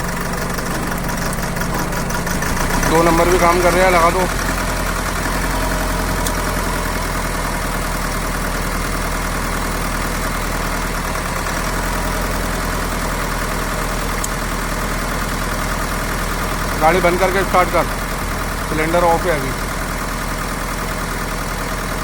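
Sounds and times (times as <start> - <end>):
diesel engine idling and missing: 0.0 - 22.0.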